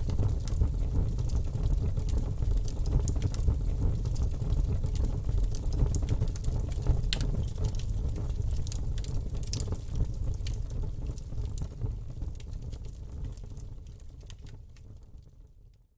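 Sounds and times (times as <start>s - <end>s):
wood fire crackling and popping: 0.0s - 15.9s.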